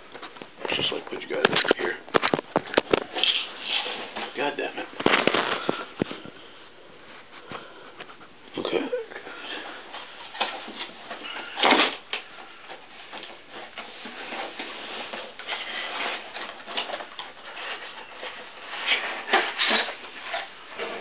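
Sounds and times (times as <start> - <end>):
cardboard rustling and scraping: 0.1 - 8.7, 9.4 - 21.0.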